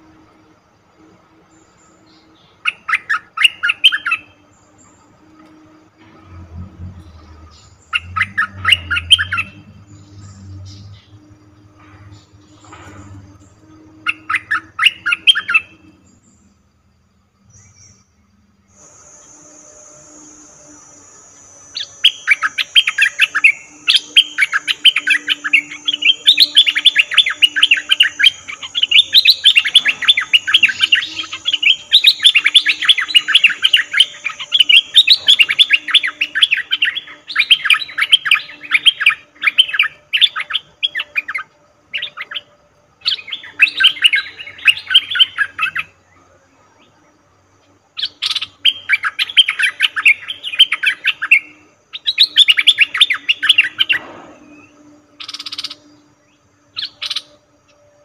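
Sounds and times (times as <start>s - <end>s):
faint high insect whine: 0.0s - 58.0s.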